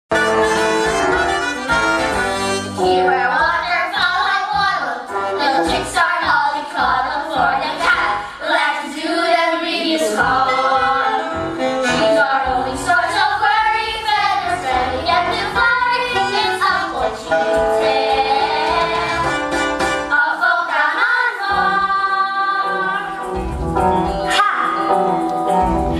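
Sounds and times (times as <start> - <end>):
instrumental accompaniment: 0.1 - 8.2, 9.8 - 25.9.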